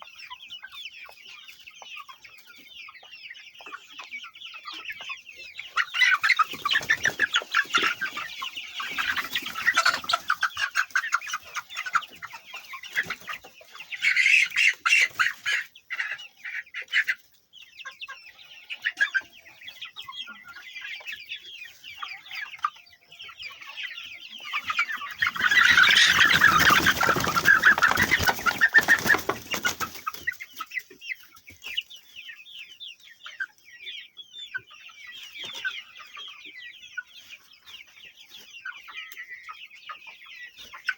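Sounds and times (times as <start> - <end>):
flock of chickens clucking: 0.0 - 40.9.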